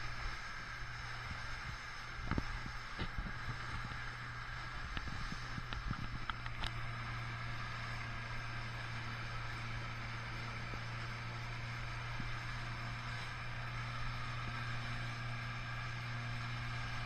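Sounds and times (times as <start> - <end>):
outboard motor humming: 0.0 - 17.0
wind: 0.0 - 17.0.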